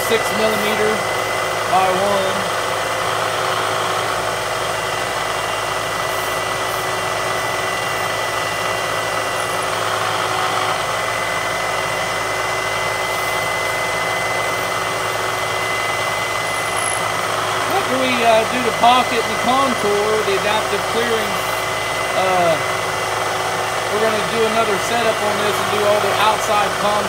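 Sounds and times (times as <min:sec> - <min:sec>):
high whine: 0:00.0 - 0:27.0
milling machine running: 0:00.0 - 0:27.0.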